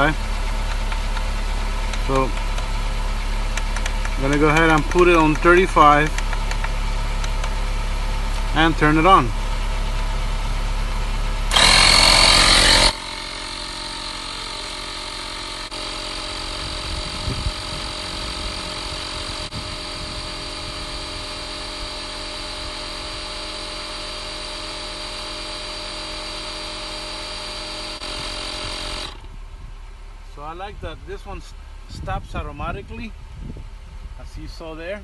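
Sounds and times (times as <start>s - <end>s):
tire inflator compressor whining: 0.0s - 35.0s.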